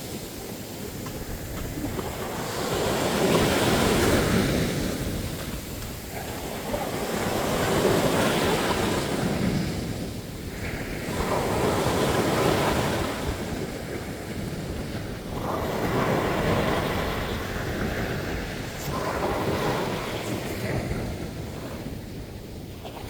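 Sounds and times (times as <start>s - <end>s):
sea waves breaking on beach: 0.0s - 23.0s.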